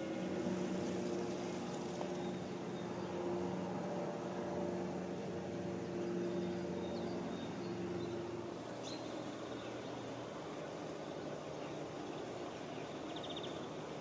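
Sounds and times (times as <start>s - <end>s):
distant engine humming: 0.0s - 14.0s.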